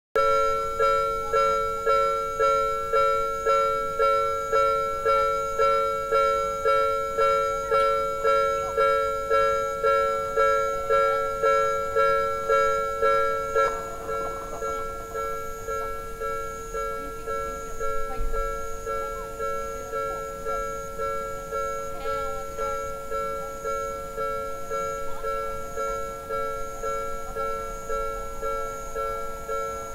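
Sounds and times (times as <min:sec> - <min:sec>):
railroad crossing bell ringing: 0:00.2 - 0:29.9.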